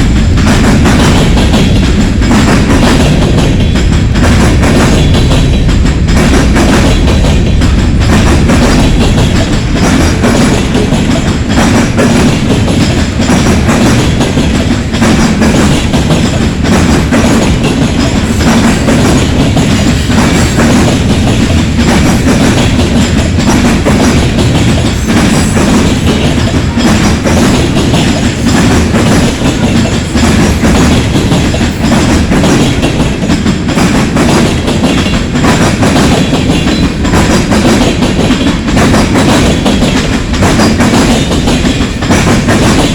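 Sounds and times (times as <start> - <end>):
freight train rumbling past: 0.0 - 42.9
wheels clattering over rails: 0.0 - 42.9.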